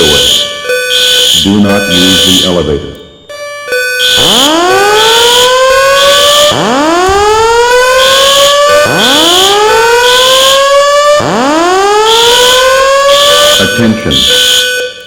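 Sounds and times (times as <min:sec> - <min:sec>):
fire alarm whoop tone: 0:00.0 - 0:02.6, 0:03.2 - 0:15.0
high-pitched alarm beeps: 0:00.0 - 0:15.0.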